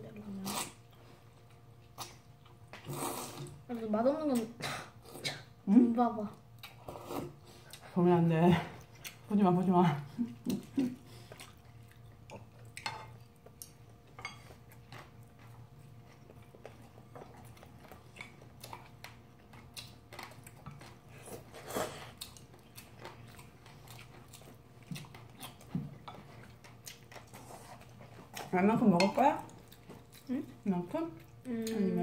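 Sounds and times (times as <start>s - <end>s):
soft chewing: 0.0s - 5.6s, 6.2s - 32.0s
faint steady hum: 0.0s - 32.0s.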